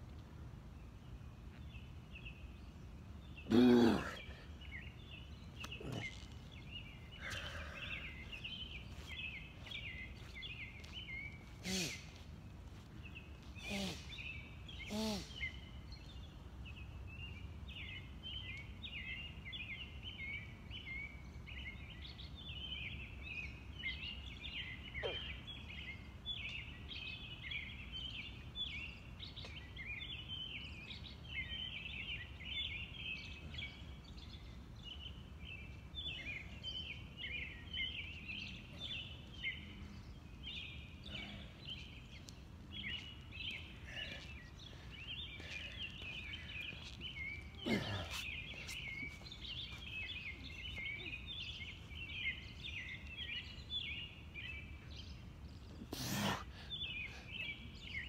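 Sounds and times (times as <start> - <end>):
birds chirping and calling: 3.2 - 58.0.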